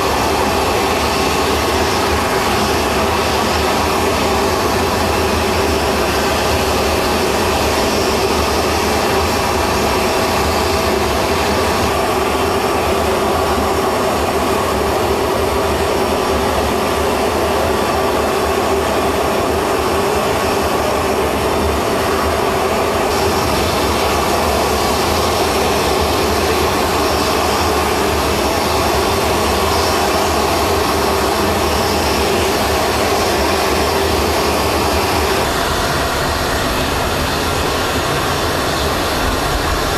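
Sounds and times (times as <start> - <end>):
jet engine running: 0.0 - 39.9.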